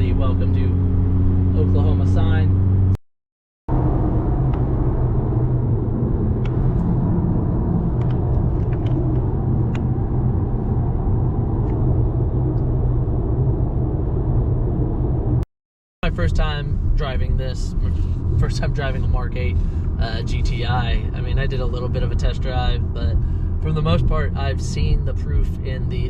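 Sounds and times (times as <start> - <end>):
car engine and road noise: 0.0 - 3.0, 3.7 - 15.4, 16.0 - 26.0.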